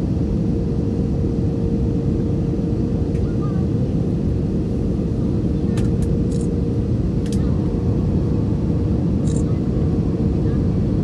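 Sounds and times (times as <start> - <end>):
jet engines roaring in cabin: 0.0 - 11.0.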